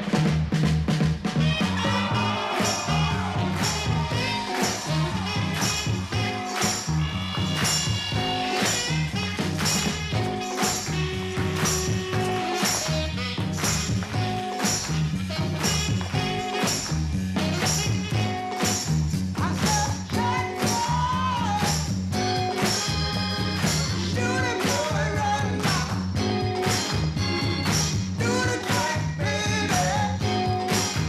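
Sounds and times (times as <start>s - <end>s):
swing dance-band music: 0.0s - 31.0s.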